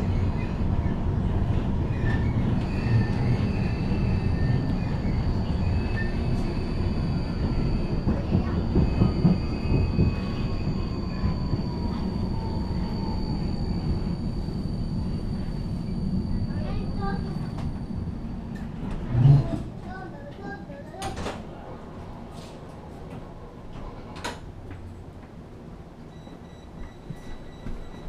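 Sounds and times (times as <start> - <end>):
tram wheels rumbling on rails: 0.0 - 28.0.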